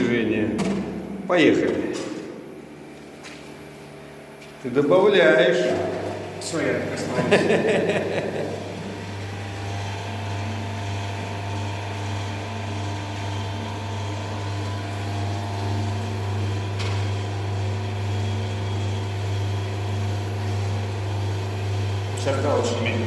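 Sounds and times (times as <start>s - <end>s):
machine electric hum: 0.0s - 23.0s.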